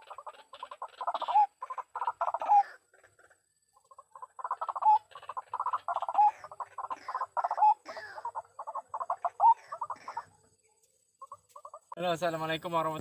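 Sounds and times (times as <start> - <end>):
bird croaking calls: 0.0 - 12.0.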